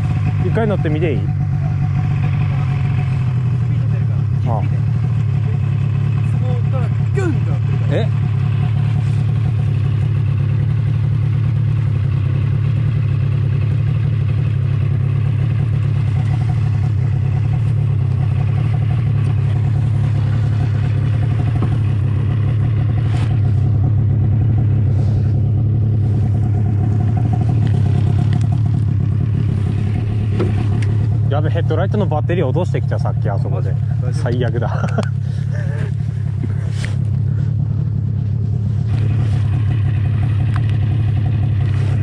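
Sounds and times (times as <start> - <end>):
snowmobile engine drone: 0.0 - 42.0.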